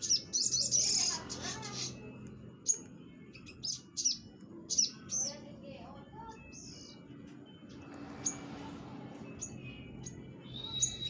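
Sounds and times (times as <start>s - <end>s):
bird chirping: 0.0s - 11.0s
low steady background hum: 0.0s - 11.0s.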